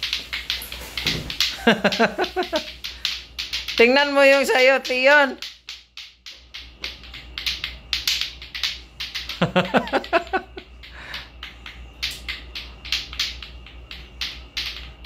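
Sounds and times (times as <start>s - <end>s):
plastic clacker balls clicking: 0.0s - 15.0s.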